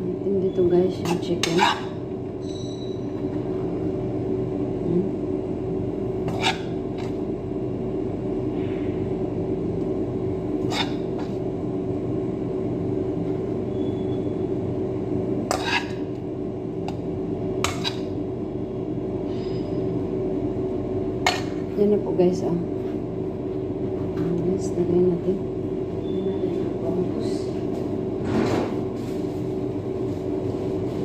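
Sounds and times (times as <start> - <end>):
kitchen machine hum: 0.0 - 31.0.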